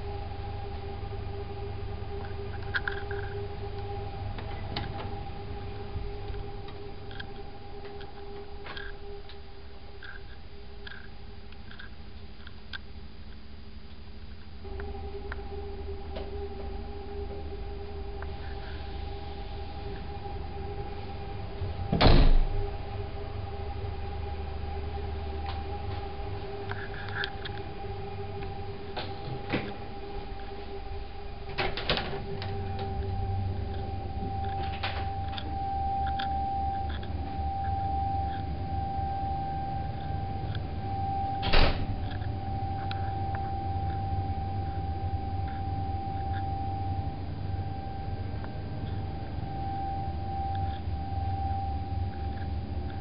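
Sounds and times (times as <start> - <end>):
mechanical hum with whining tone: 0.0 - 53.0.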